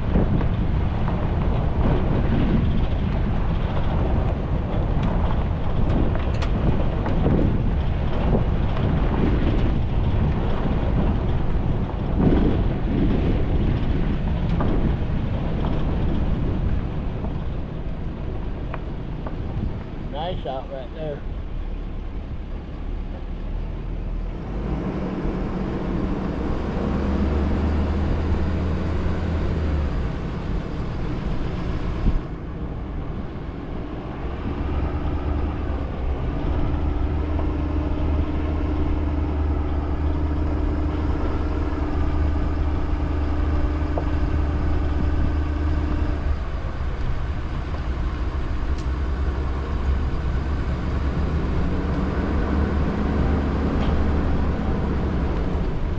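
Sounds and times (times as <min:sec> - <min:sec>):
road and engine rumble: 0:00.0 - 0:55.9.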